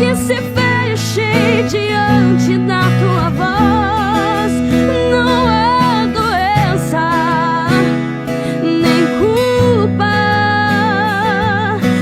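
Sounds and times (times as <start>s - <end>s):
acoustic guitar: 0.0s - 12.0s
bass: 0.0s - 12.0s.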